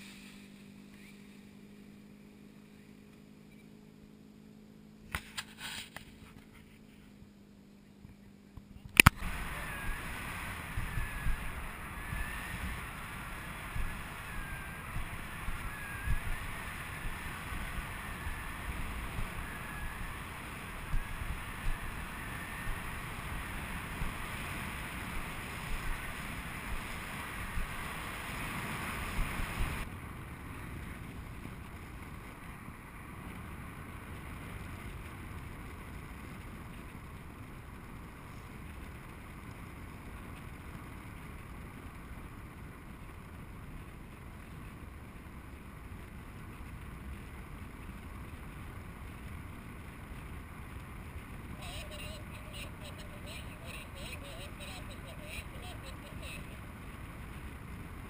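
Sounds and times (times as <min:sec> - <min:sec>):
wind buffeting microphone: 0:09.0 - 0:58.0.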